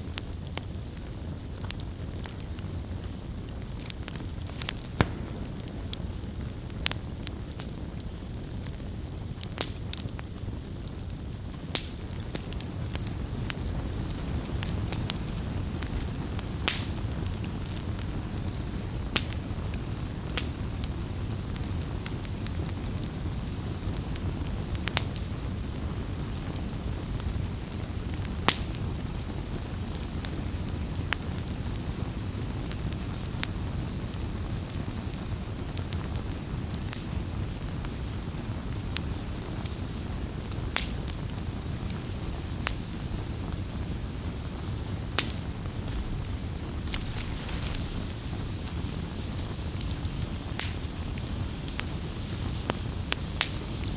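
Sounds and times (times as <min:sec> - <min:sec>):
campfire crackling and popping: 0:00.0 - 0:53.9
low rumble of burning: 0:00.0 - 0:53.9.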